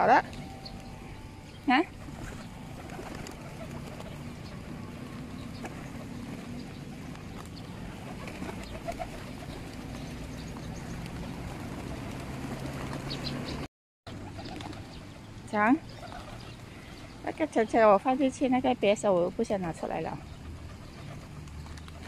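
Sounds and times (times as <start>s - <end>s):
pigeons cooing: 0.0s - 13.6s, 14.2s - 15.2s, 15.9s - 17.4s, 19.6s - 22.0s
wings fluttering: 0.0s - 15.2s, 15.9s - 17.4s, 19.9s - 22.0s.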